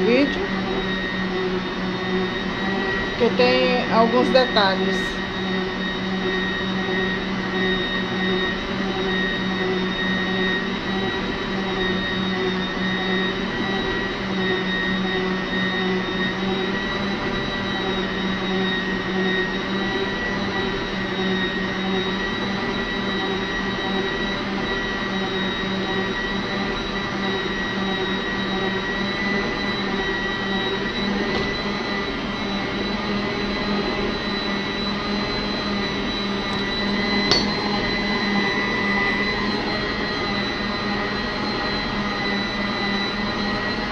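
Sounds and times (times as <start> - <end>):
stand mixer motor whining: 0.0 - 43.9.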